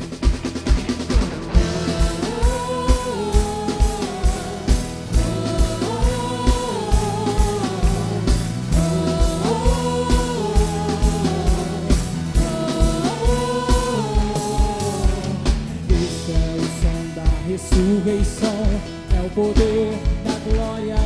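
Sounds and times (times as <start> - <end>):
steady kick drum: 0.0 - 20.8
gospel worship band music: 0.0 - 21.0.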